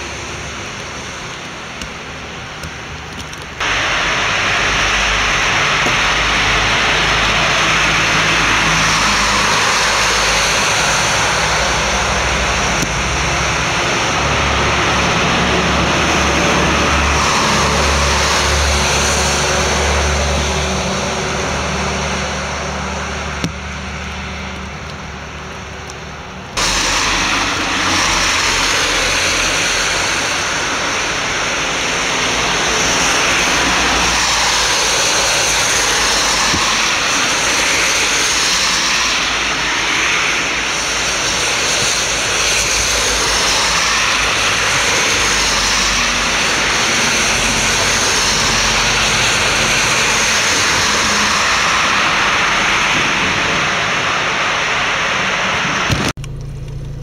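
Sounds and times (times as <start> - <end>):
lorry engine rumble: 0.0 - 57.0
traffic on wet road: 0.0 - 57.0
vehicles passing: 0.0 - 57.0.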